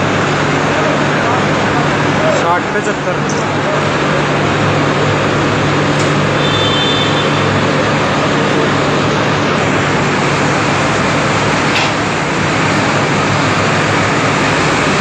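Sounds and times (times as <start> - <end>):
assembly line machinery din: 0.0 - 15.0.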